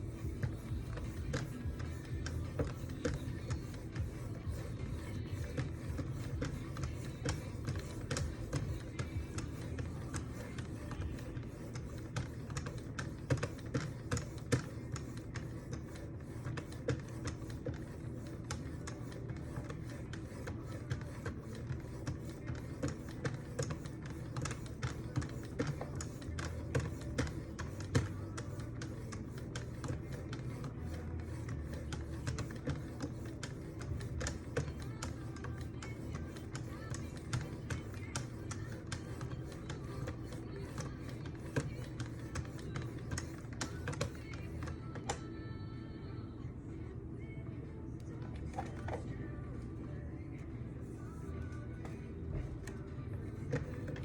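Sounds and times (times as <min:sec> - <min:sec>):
faint background music: 0:00.0 - 0:54.0.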